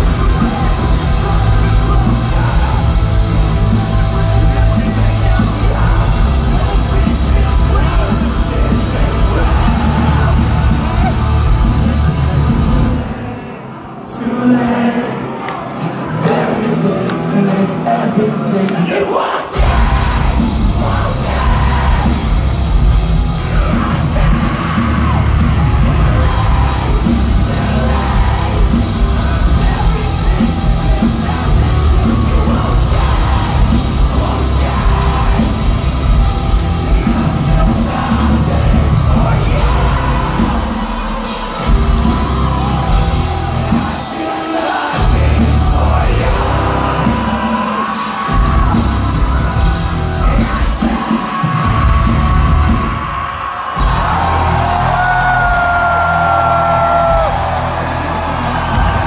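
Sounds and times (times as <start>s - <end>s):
bass and drums: 0.0s - 13.2s, 19.6s - 59.0s
heavy distorted guitars: 0.0s - 59.0s
yelled vocals: 0.0s - 59.0s.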